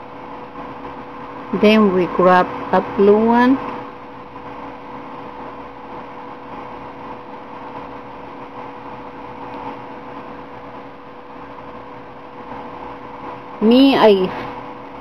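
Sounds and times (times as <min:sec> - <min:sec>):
motor-driven appliance humming: 0:00.0 - 0:15.0.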